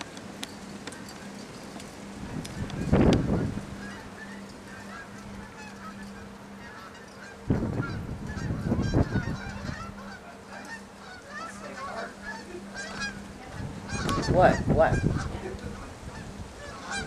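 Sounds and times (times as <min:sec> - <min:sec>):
flock of birds calling: 0:00.0 - 0:17.0
wind buffeting microphone: 0:00.0 - 0:17.0
steady low hum: 0:01.9 - 0:17.0.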